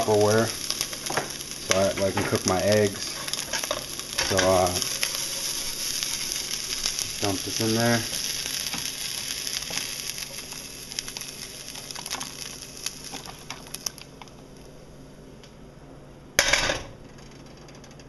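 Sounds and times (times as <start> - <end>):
hot pan sizzling: 0.0 - 15.3.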